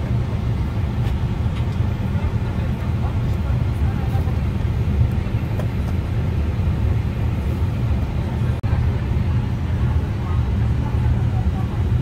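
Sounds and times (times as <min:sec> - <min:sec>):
aircraft cockpit low rumble: 0:00.0 - 0:12.0.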